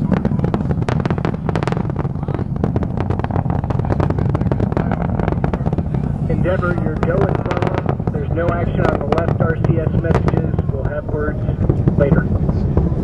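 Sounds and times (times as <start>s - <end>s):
distant rocket rumble and crackling: 0.0s - 13.0s.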